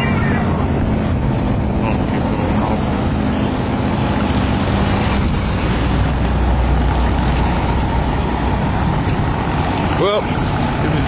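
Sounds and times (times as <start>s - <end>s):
road noise: 0.0s - 11.0s
vehicle engine: 0.0s - 11.0s.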